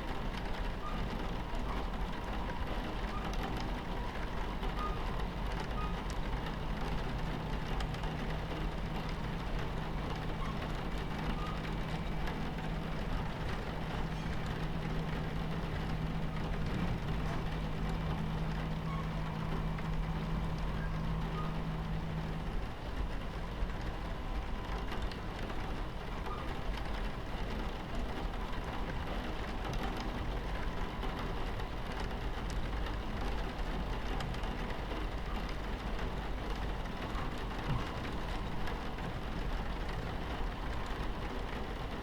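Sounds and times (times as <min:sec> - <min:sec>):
low steady hum: 0:00.0 - 0:42.0
moving train rumbling: 0:00.0 - 0:42.0
rain pattering on window: 0:00.0 - 0:42.0.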